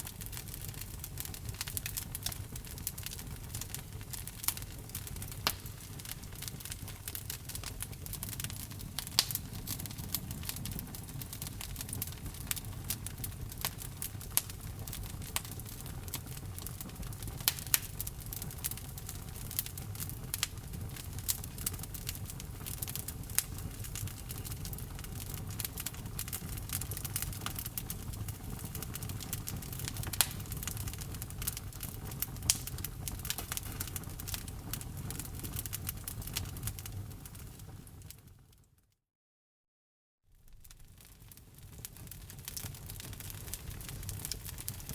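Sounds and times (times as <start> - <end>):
wood fire crackling: 0.0 - 38.6, 40.3 - 44.9.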